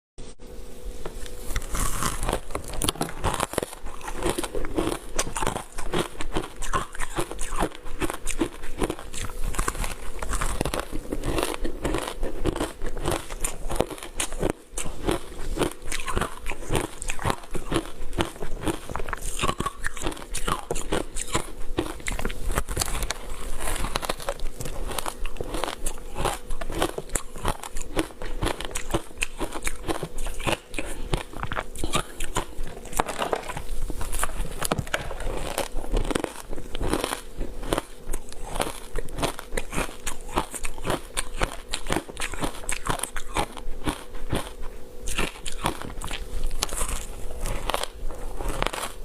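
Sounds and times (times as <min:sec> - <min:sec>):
ice crunching being chewed: 0:01.4 - 0:49.0.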